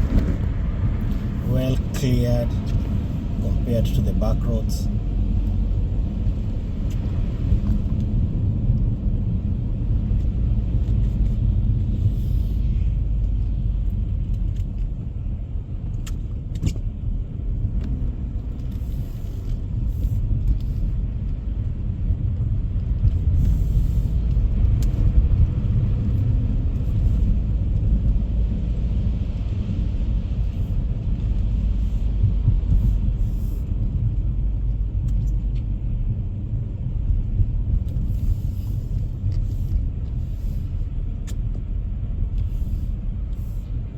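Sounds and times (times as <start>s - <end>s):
car driving on road: 0.0s - 43.9s.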